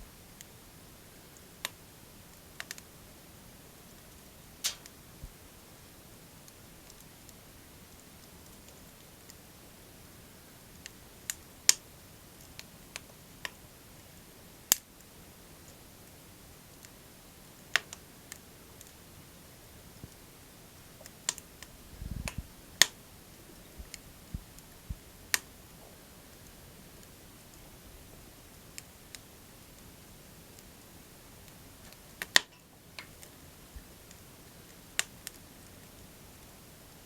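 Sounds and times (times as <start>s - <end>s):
faint steady hiss: 0.0s - 37.0s
wood fire crackling and popping: 0.0s - 37.0s.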